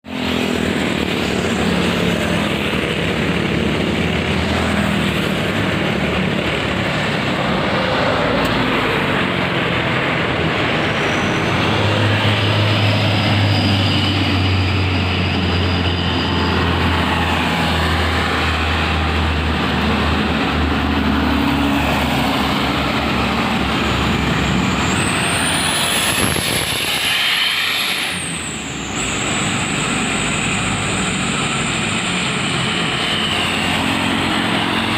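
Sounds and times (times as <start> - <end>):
heavy trucks passing: 0.1 - 34.9.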